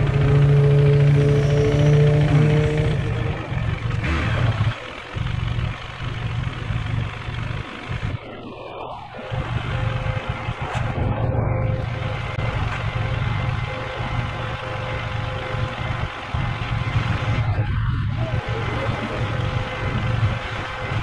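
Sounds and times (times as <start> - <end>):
motorcycle engine at low speed: 0.0 - 21.0.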